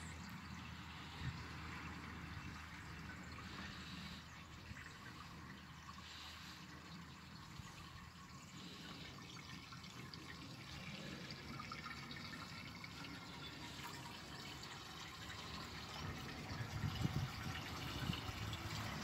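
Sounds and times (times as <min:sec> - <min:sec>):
water trickling into tanks: 0:00.0 - 0:19.0.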